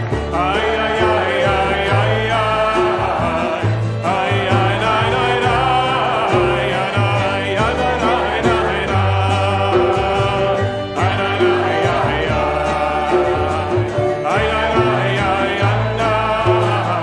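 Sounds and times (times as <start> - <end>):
congregation singing: 0.0 - 17.0
strummed acoustic guitar: 0.0 - 17.0.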